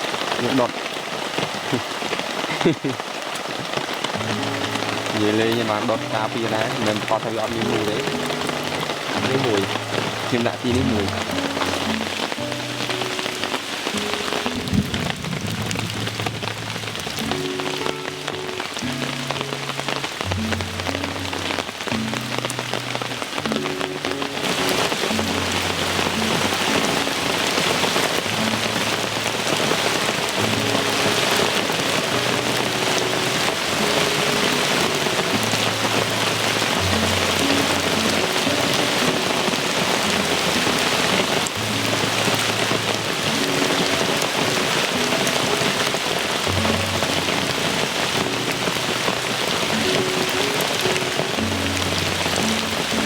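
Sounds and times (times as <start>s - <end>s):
heavy rain falling: 0.0s - 53.0s
soft music of low held notes: 4.1s - 53.0s.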